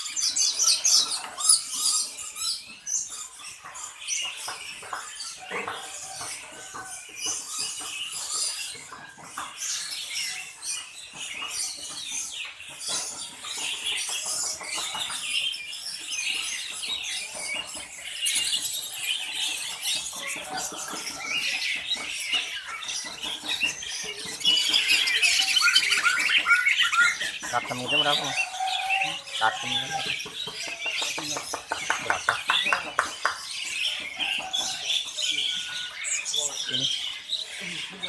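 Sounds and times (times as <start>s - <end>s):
caged birds chirping: 0.0s - 38.0s.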